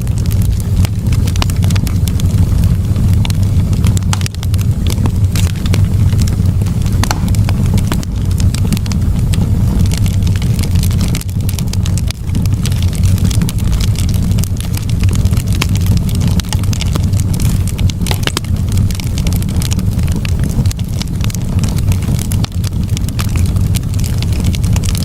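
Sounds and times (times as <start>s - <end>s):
campfire crackling: 0.0s - 25.0s
low fire rumble: 0.0s - 25.0s.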